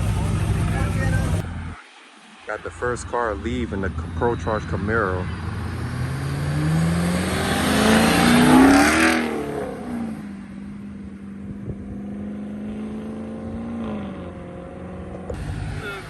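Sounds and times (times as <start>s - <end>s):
car engine accelerating: 0.0s - 16.0s
supercharger rushing: 0.0s - 16.0s.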